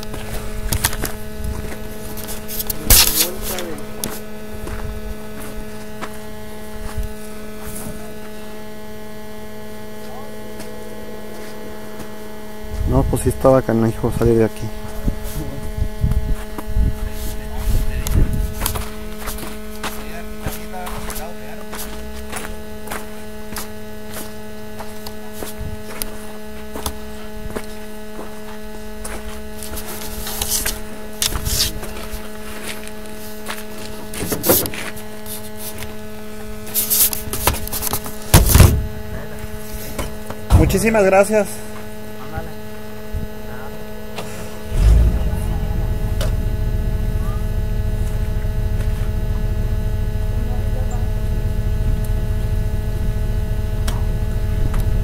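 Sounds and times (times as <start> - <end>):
steady hum with higher tones: 0.0 - 55.0.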